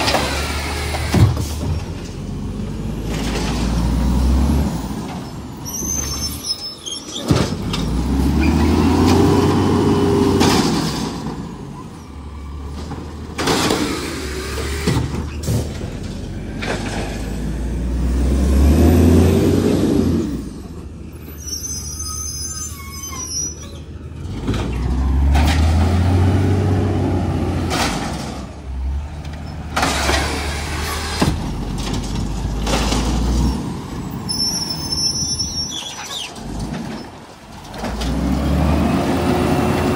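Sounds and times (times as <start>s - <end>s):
garbage truck engine revving: 0.0s - 5.3s, 7.2s - 20.9s, 23.7s - 34.5s, 35.5s - 39.9s.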